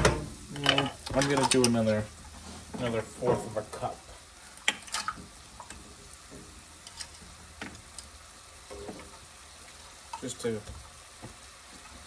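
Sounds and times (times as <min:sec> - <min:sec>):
apples sizzling in butter: 0:00.0 - 0:12.0.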